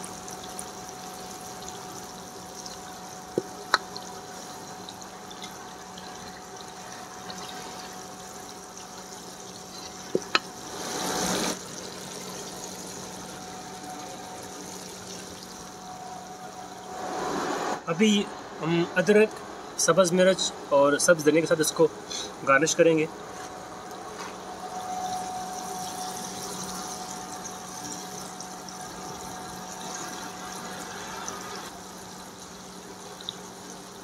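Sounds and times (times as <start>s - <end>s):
food sizzling in oil: 0.0s - 17.8s, 23.2s - 34.0s.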